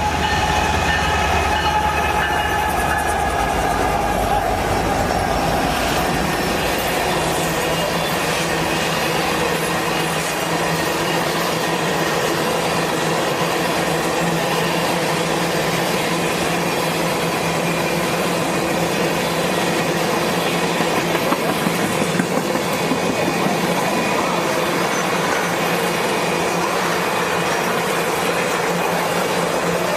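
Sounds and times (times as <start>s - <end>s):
freight train rolling past: 0.0s - 29.9s
train wheel squeal: 0.0s - 29.9s.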